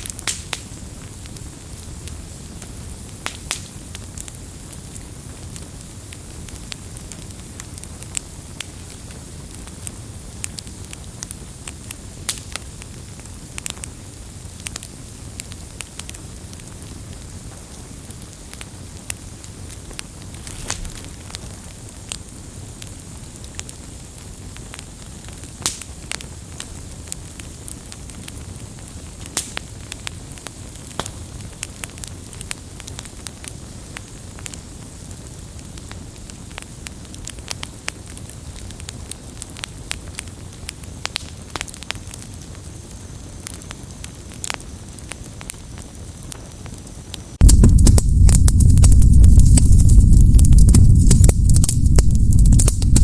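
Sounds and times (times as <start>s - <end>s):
firewood crackling and popping: 0.0s - 53.0s
low rush of flame: 0.0s - 53.0s.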